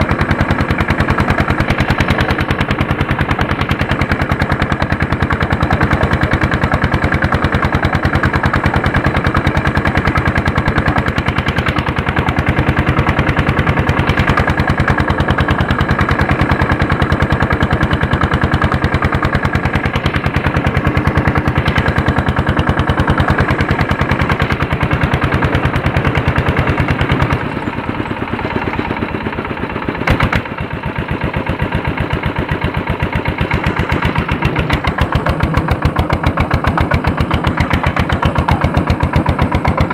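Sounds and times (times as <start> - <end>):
diesel tractor engine: 0.0 - 39.9.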